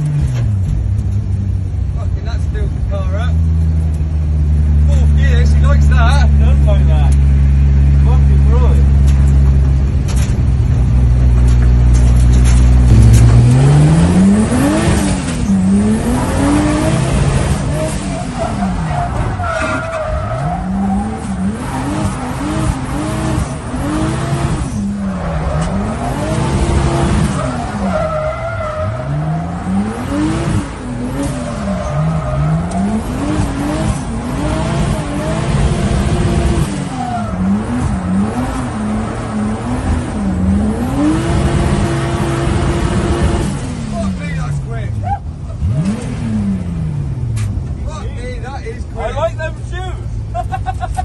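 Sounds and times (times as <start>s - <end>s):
car engine revving: 0.0s - 51.0s
tyres skidding: 0.0s - 51.0s.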